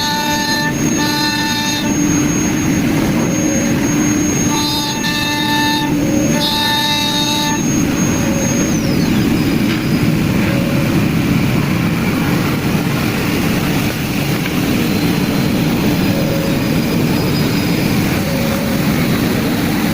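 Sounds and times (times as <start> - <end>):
high motor whine: 0.0 - 19.9.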